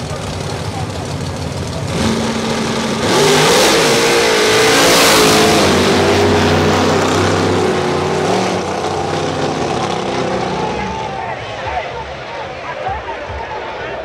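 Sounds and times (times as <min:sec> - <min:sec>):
drag car accelerating: 0:00.0 - 0:12.8.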